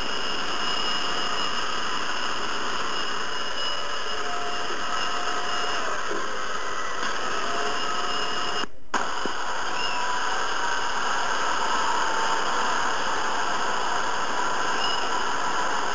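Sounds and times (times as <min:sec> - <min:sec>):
hair dryer running: 0:01.4 - 0:15.9.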